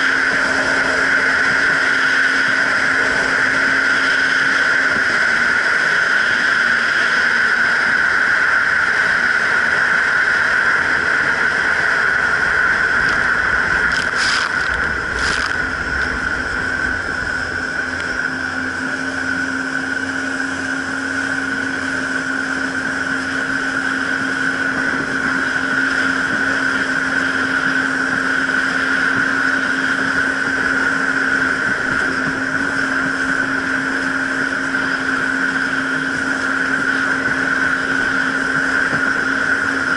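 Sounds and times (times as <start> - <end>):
jet ski engine whine: 0.0 - 39.9.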